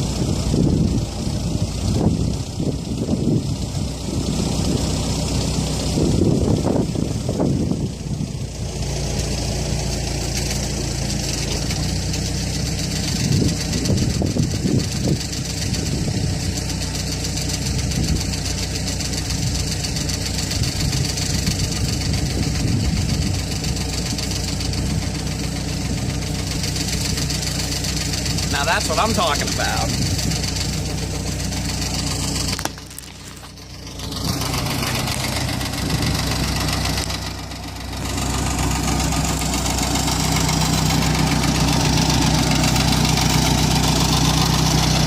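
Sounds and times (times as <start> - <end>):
backhoe engine running: 0.0 - 45.0.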